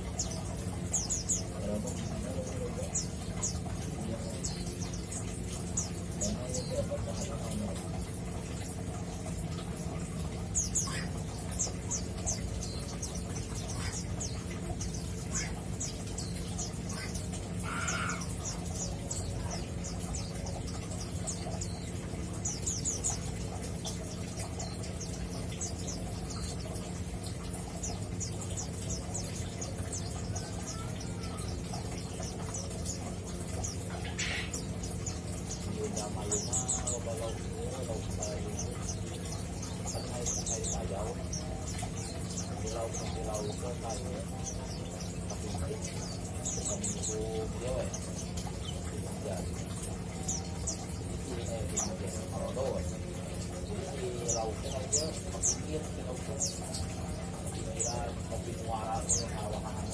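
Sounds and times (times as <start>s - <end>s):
bird chirping and twittering: 0.0s - 59.9s
steady low hum: 0.0s - 59.9s.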